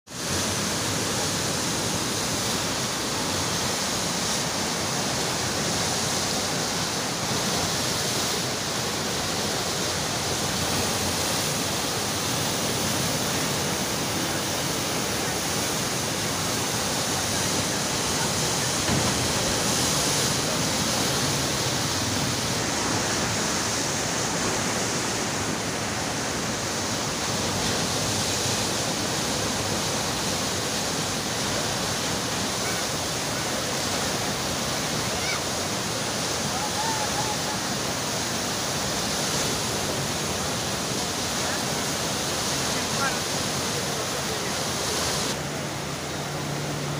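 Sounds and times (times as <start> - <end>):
river torrent rushing: 0.1 - 46.9.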